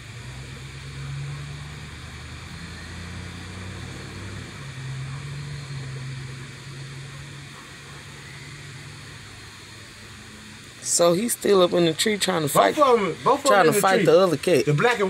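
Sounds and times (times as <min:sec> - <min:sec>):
low engine-like drone: 0:00.0 - 0:15.0.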